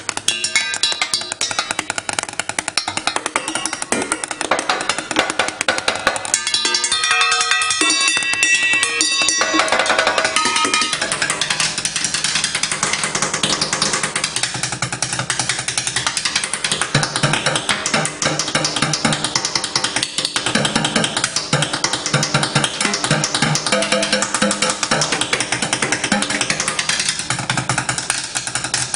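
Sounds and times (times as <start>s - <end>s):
chopsticks drumming on pots and pans: 0.0s - 28.9s.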